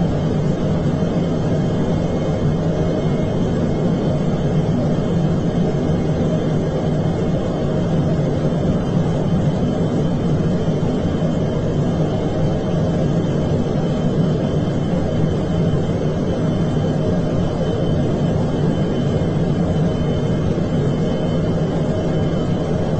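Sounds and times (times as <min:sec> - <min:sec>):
aircraft cockpit engine rumble: 0:00.0 - 0:22.9.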